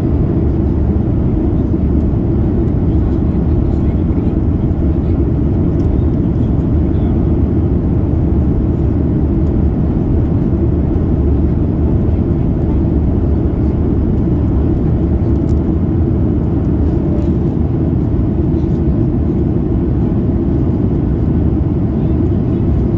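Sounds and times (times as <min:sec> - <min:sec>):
airplane cabin engine rush: 0:00.0 - 0:22.9.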